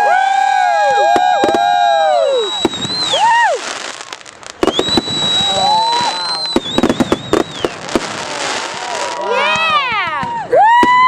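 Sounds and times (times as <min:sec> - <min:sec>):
firework whistles falling in pitch: 0:00.0 - 0:09.2
firework cracks and bangs: 0:00.5 - 0:11.0.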